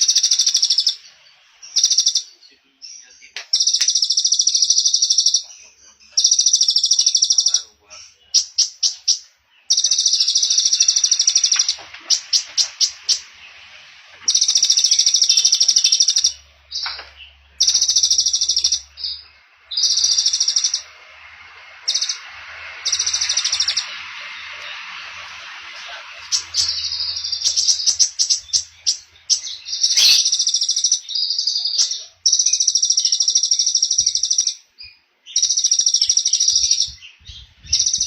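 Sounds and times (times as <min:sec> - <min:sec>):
bird chipping notes: 0:00.0 - 0:38.0
songbird buzzy trills: 0:00.0 - 0:38.0.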